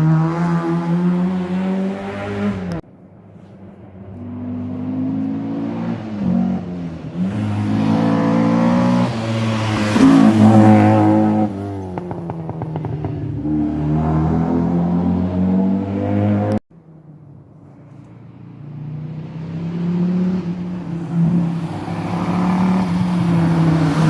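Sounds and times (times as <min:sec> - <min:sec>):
rally car engine at full throttle: 0:00.0 - 0:02.8, 0:04.2 - 0:16.6, 0:17.6 - 0:24.0.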